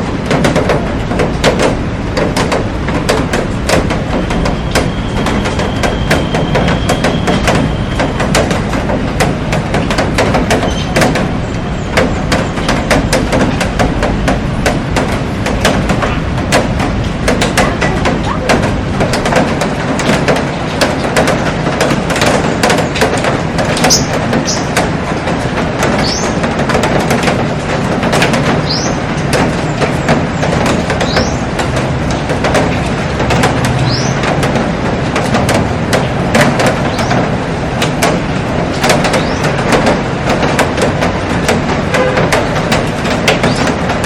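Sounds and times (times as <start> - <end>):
heavy rain: 0.0 - 44.0
raindrops tapping on glass: 0.0 - 44.0.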